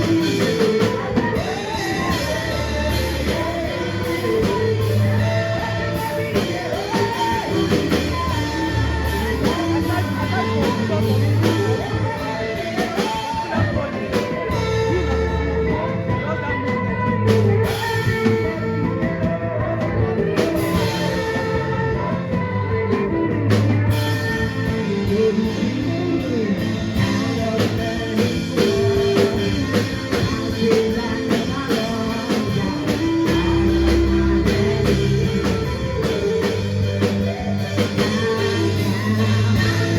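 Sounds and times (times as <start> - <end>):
gospel song with singing and band: 0.0 - 39.9.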